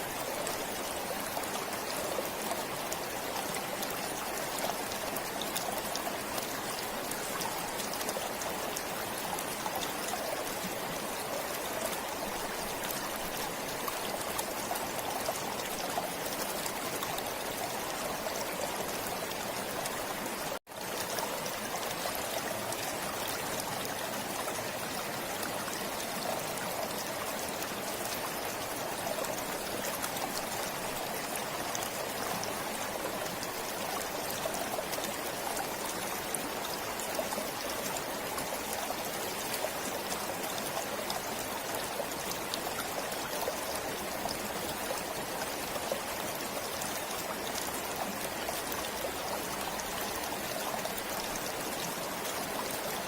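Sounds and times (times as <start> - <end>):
stream flowing: 0.0 - 53.0.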